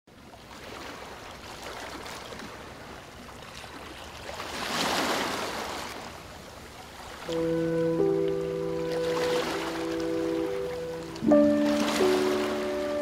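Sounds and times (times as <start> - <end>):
sea waves washing on shore: 0.4 - 13.0.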